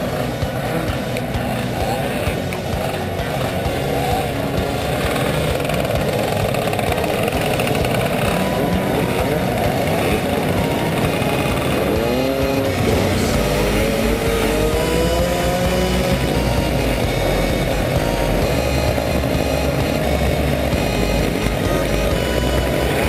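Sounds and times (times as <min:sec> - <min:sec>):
scooter engine revving: 0:00.0 - 0:23.0
scooter engines idling: 0:00.0 - 0:23.0.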